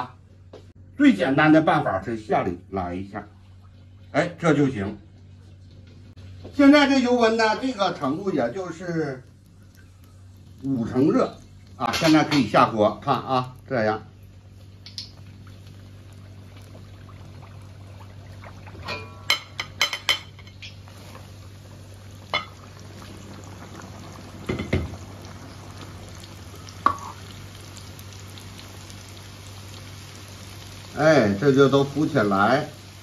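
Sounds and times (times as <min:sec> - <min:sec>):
rice deep-frying in oil: 0:01.1 - 0:33.0.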